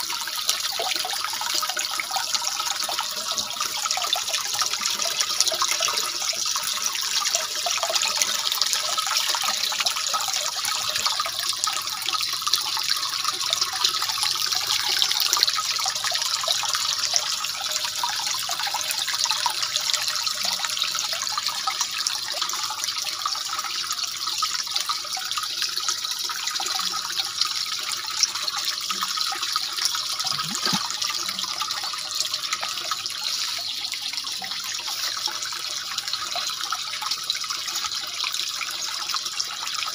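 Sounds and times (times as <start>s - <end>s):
water trickling into tank: 0.0s - 39.9s.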